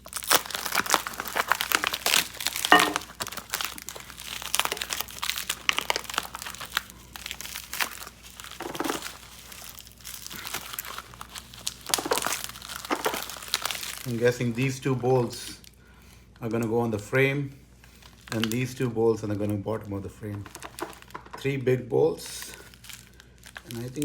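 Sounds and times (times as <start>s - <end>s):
packing material crinkling: 0.0s - 15.7s, 17.8s - 24.0s.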